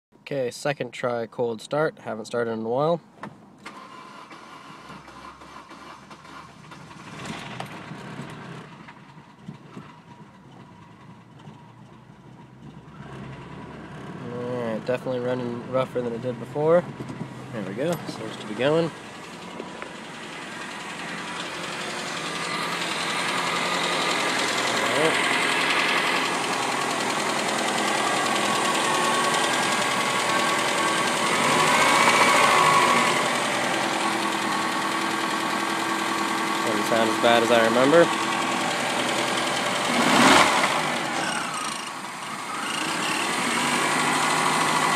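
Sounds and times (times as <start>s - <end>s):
car engine running rough: 3.7s - 44.9s.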